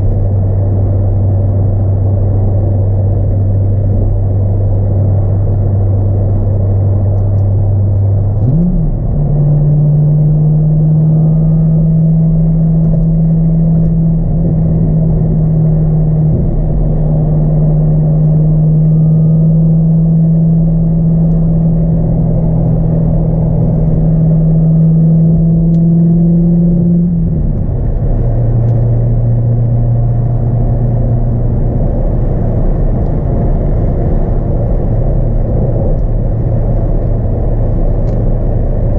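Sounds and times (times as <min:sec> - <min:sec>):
car engine droning and revving: 0:00.0 - 0:38.9
road noise: 0:00.0 - 0:38.9.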